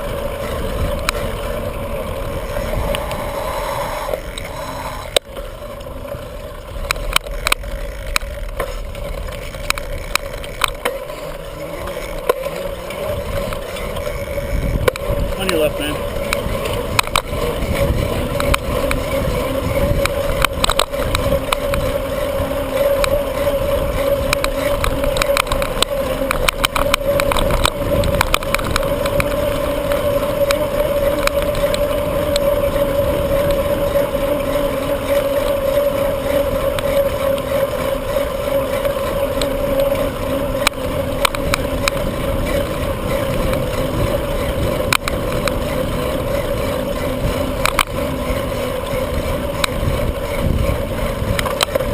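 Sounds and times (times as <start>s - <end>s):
bike clicks and rattles: 0.0s - 51.9s
steady hum: 0.0s - 51.9s
tyres rolling on pavement: 0.0s - 51.9s
wind buffeting microphone: 0.0s - 51.9s.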